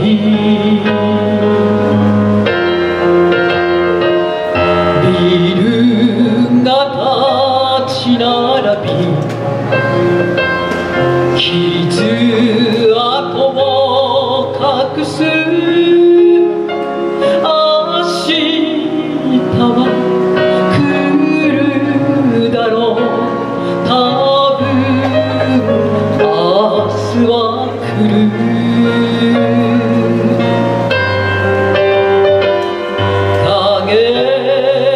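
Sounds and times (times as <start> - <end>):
woman singing into microphone: 0.0 - 2.1, 4.7 - 9.5, 11.2 - 30.9, 33.0 - 34.9
instrumental accompaniment with bass: 0.0 - 34.9.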